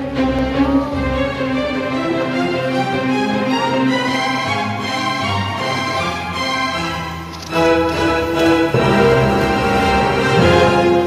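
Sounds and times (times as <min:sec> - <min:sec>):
orchestral music: 0:00.0 - 0:11.0.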